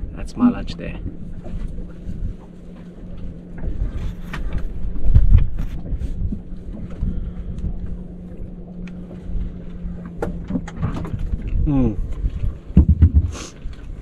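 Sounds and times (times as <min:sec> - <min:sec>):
steady low hum: 0:00.0 - 0:14.0
wind buffeting microphone: 0:00.0 - 0:14.0.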